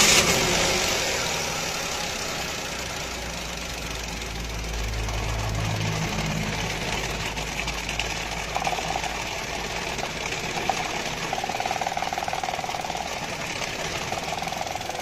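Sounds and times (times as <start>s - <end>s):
engine idling with misfire: 0.0s - 15.0s.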